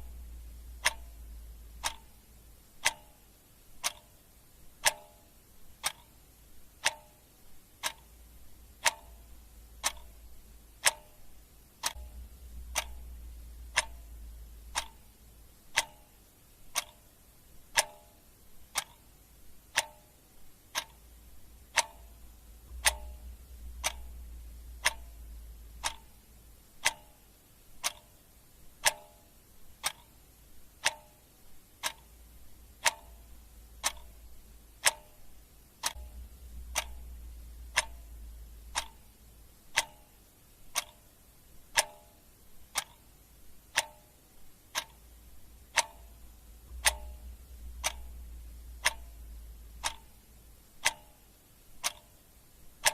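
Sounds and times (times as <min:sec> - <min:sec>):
clock ticking: 0:00.0 - 0:52.9
faint low hum: 0:00.0 - 0:52.9.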